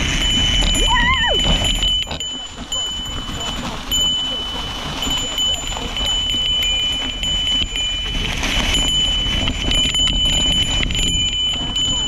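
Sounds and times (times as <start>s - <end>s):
small bell jangling: 0.0s - 12.0s
wind and riding rumble: 0.0s - 12.0s.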